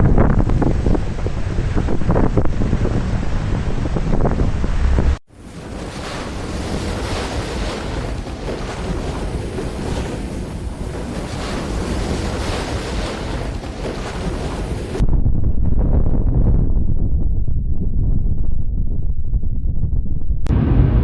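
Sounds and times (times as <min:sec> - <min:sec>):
strong wind on microphone: 0:00.0 - 0:21.0.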